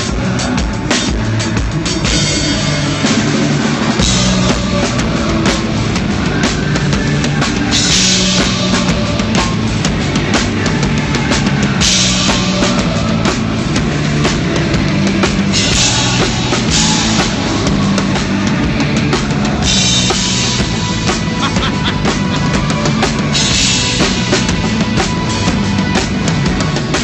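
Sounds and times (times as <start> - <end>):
drum kit beat: 0.0 - 27.0
held bass notes: 0.0 - 27.0
rock band playing live: 0.0 - 27.0.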